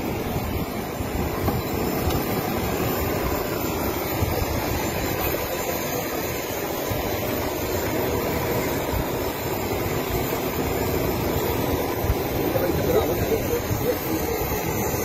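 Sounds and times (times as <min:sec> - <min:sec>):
jet engine running: 0:00.0 - 0:15.0.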